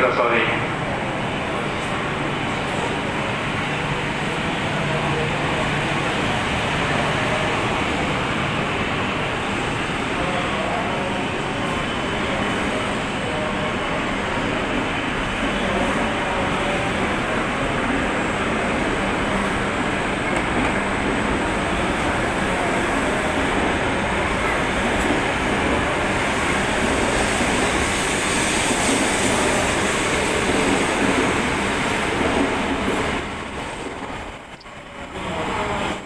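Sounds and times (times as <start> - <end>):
train rushing noise: 0.0 - 36.0.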